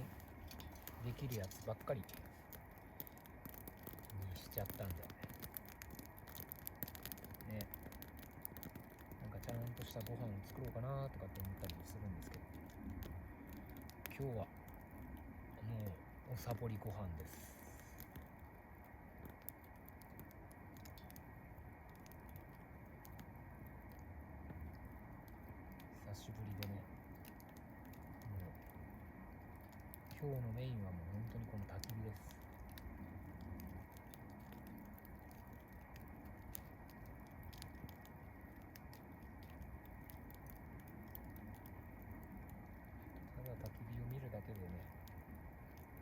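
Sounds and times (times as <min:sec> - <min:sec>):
campfire crackling and popping: 0:00.0 - 0:46.0
low steady hiss: 0:00.0 - 0:46.0.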